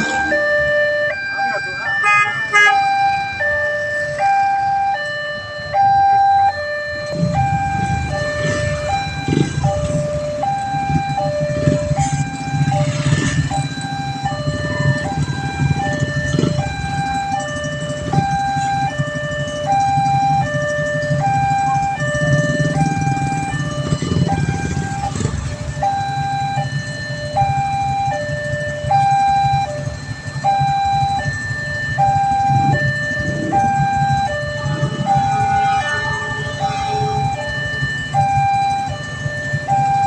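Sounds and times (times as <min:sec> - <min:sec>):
two-tone crossing alarm: 0:00.0 - 0:40.0.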